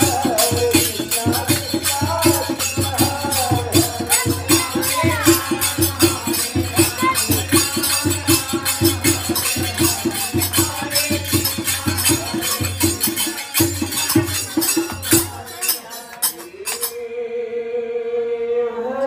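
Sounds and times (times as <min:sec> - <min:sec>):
dholak drum beating: 0:00.0 - 0:17.0
hand cymbals jingling: 0:00.0 - 0:17.0
voices singing: 0:00.0 - 0:19.0.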